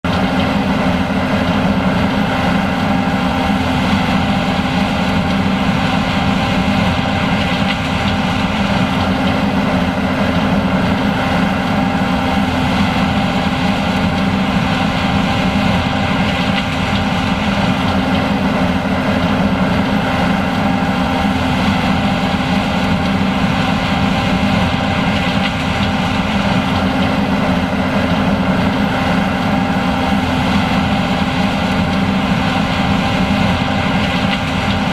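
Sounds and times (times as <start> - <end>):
combine harvester machine drone: 0.0 - 34.9.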